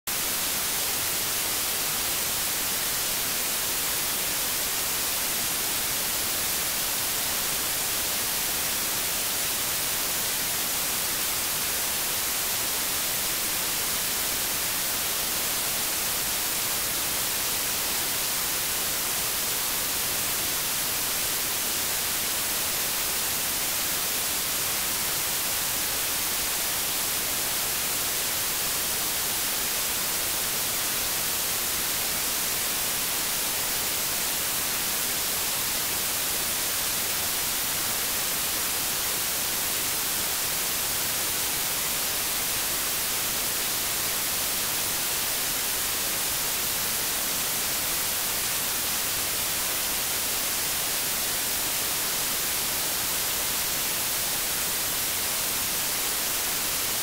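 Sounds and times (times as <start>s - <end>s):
white noise hiss: 0.1s - 57.0s.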